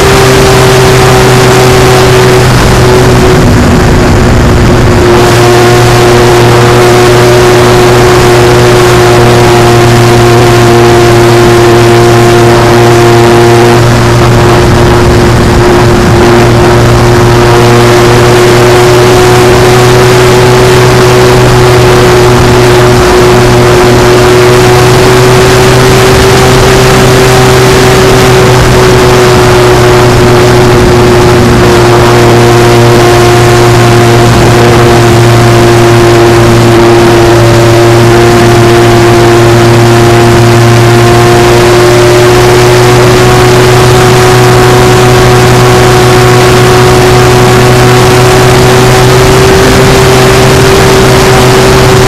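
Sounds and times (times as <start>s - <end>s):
electric motor and propeller whine: 0.0s - 52.0s
rushing air: 0.0s - 52.0s.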